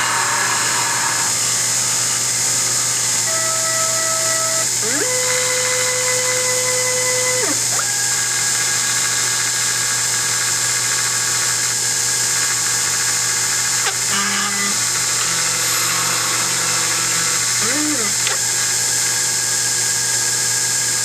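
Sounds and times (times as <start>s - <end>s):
lathe spindle motor hiss: 0.0s - 21.0s
stepper motors whining: 0.0s - 21.0s.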